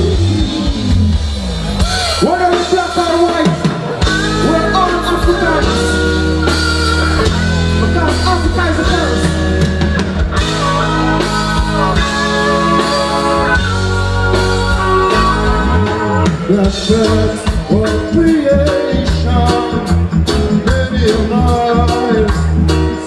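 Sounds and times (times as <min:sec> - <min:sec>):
heavy bass line: 0:00.0 - 0:23.0
live reggae band playing: 0:00.0 - 0:23.0.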